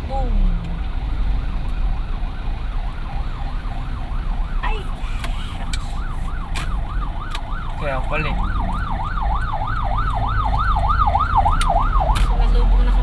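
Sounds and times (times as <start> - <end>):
low traffic rumble: 0.0 - 13.0
ambulance siren yelping: 1.0 - 12.8.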